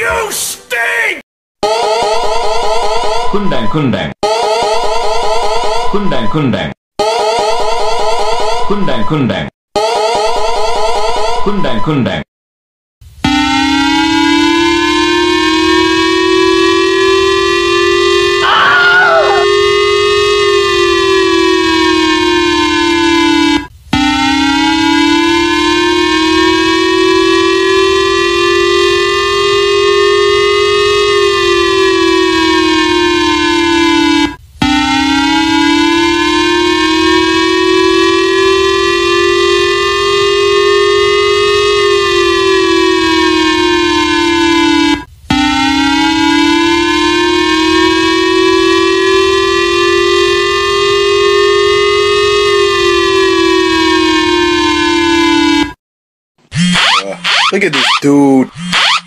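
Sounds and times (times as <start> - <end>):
warning siren tone: 1.6 - 3.6, 4.2 - 6.2, 7.0 - 9.1, 9.8 - 11.6, 13.0 - 55.8, 56.6 - 59.0.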